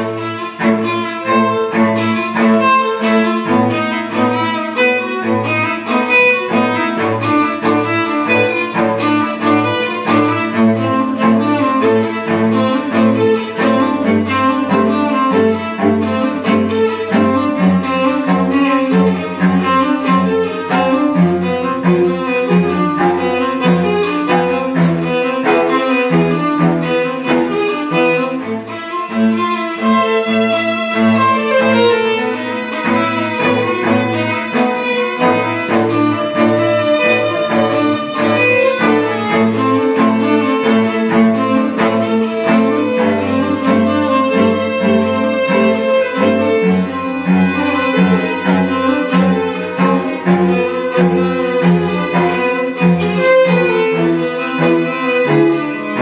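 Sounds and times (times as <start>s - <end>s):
string quartet playing: 0.0s - 56.0s.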